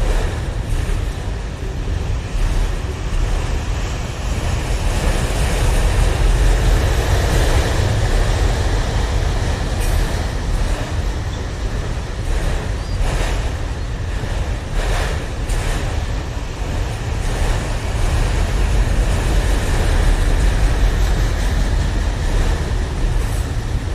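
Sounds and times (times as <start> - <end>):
freight train wheels rumbling: 0.0 - 23.9.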